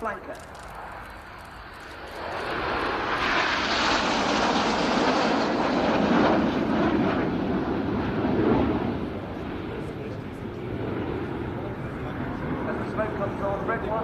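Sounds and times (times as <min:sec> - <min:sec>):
jets passing with loud roar: 0:00.0 - 0:14.0.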